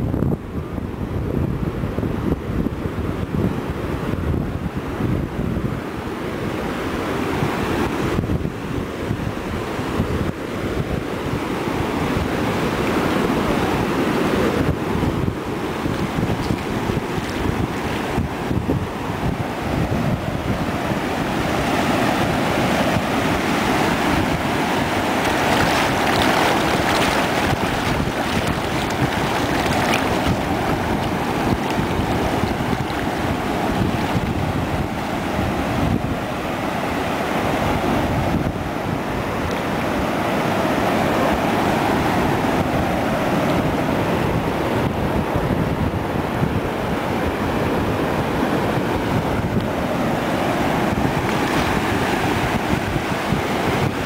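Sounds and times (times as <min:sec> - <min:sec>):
wind buffeting microphone: 0:00.0 - 0:36.7, 0:37.5 - 0:40.1, 0:41.2 - 0:54.0
surf washing over sand: 0:01.5 - 0:54.0.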